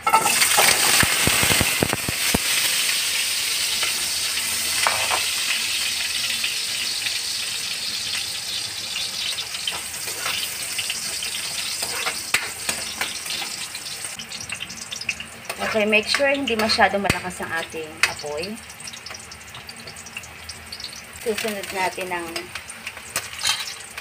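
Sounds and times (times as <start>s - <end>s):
carrots sizzling in hot oil: 0.0s - 24.0s.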